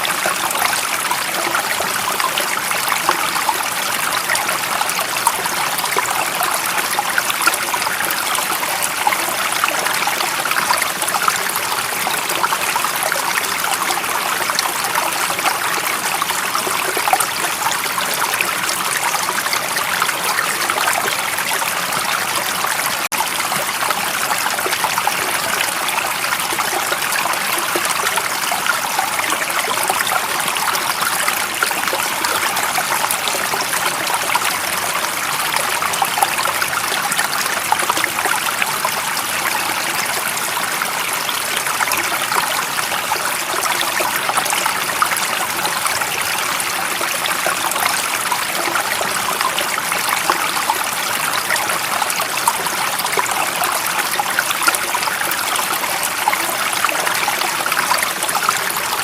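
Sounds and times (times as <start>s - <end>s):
stream of water trickling: 0.0s - 59.0s.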